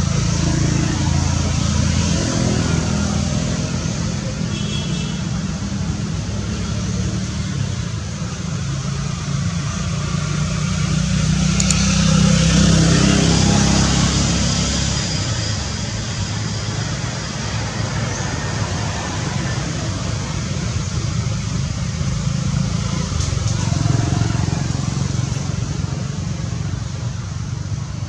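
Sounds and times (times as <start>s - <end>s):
vehicle passing: 0.0s - 4.5s, 5.4s - 28.0s
road traffic rumble: 0.0s - 28.0s.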